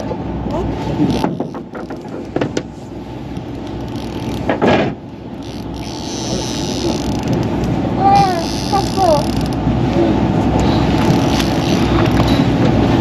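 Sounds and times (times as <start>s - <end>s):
boat engine running: 0.0s - 13.0s
sea noise: 0.0s - 13.0s
wind: 0.0s - 13.0s.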